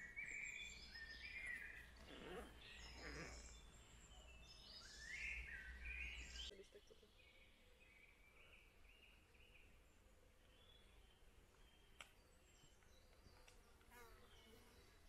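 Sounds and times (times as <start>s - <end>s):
faint outdoor hiss: 0.0s - 15.0s
songbird chirps and calls: 0.0s - 15.0s.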